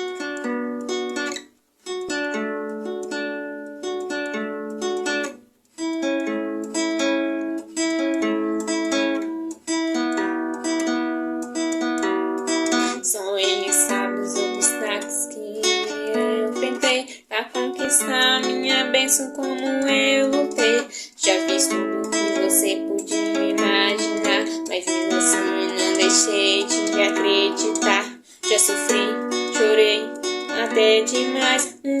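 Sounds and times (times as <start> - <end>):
plucked acoustic string instrument: 0.0 - 32.0.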